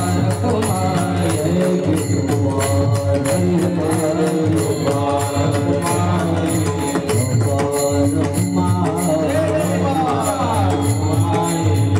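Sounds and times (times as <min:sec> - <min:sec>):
devotional chanting and singing: 0:00.0 - 0:11.9
jingling percussion beat: 0:00.0 - 0:11.9.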